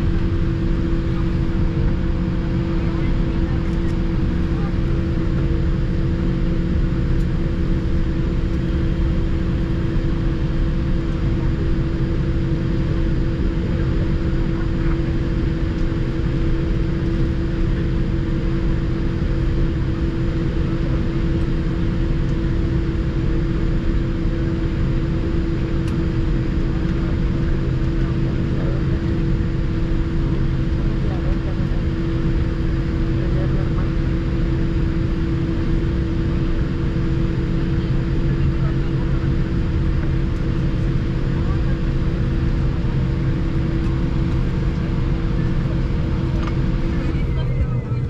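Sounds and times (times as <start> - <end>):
airplane cabin rumble: 0.0 - 48.0.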